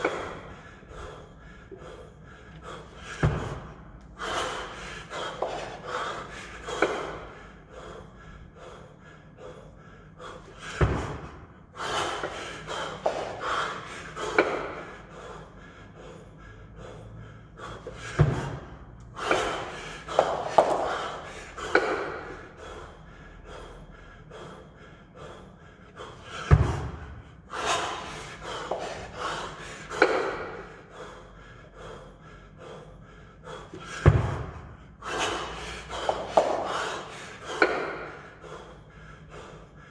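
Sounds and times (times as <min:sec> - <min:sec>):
man breathing hard: 0:00.0 - 0:39.9.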